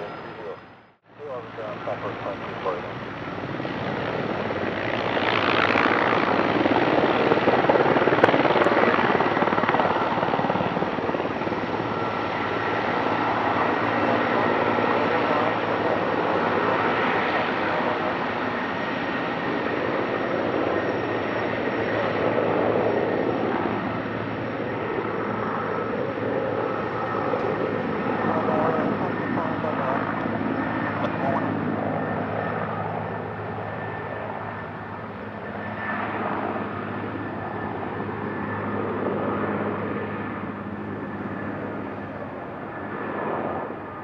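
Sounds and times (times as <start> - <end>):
helicopter rotor and engine noise: 0.0 - 44.0
thin steady whine: 0.0 - 44.0.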